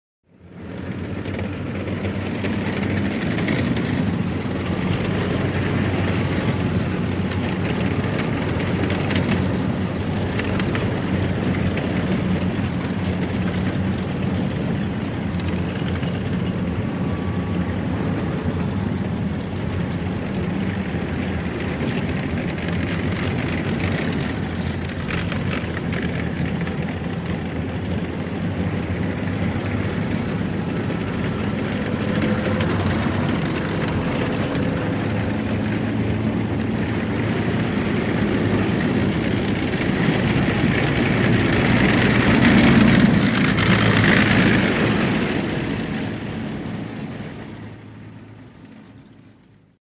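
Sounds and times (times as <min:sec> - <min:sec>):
heavy diesel engines rumbling: 0:00.2 - 0:49.8.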